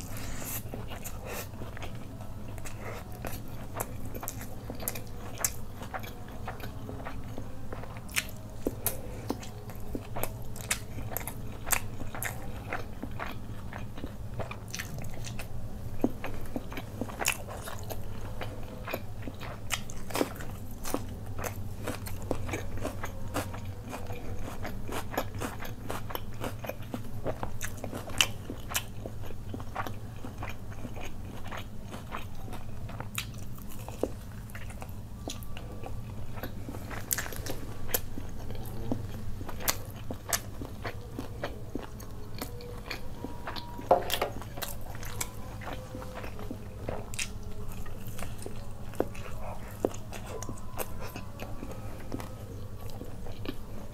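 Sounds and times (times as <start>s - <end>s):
steady low hum: 0.0s - 53.9s
wet chewing and biting: 0.0s - 53.9s.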